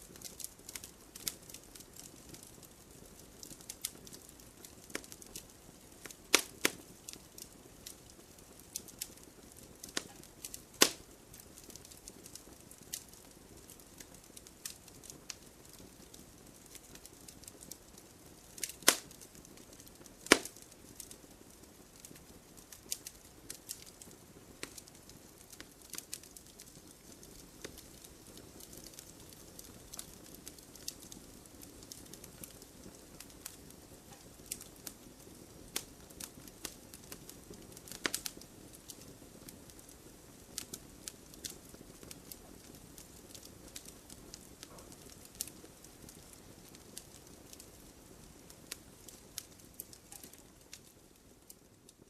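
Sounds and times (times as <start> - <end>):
wood fire pops and snaps: 0.0 - 52.0
flames hissing: 0.1 - 52.0.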